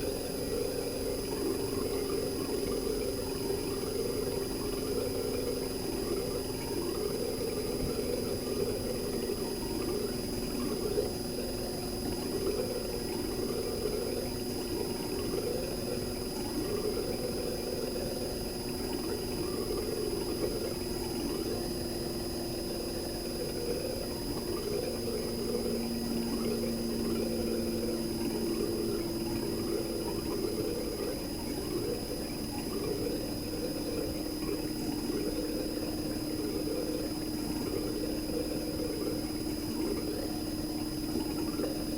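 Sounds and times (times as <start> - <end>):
compressor humming with high whine: 0.0 - 41.9.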